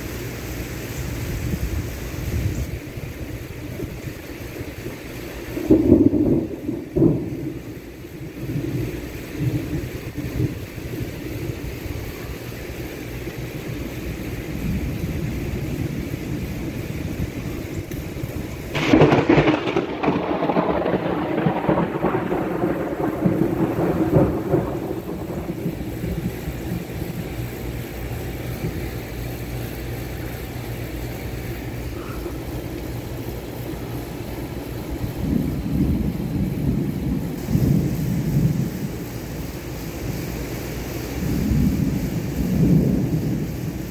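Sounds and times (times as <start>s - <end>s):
steady rain: 0.0s - 43.9s
thunder clap and rumble: 1.2s - 43.9s.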